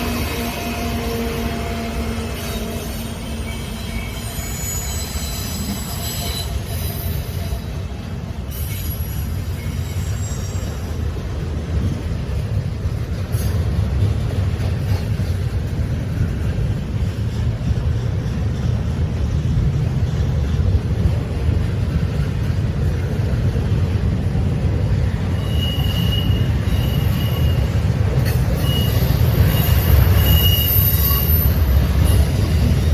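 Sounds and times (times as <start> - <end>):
train rumbling past: 0.0 - 32.9
wheels squealing on rails: 0.0 - 32.9.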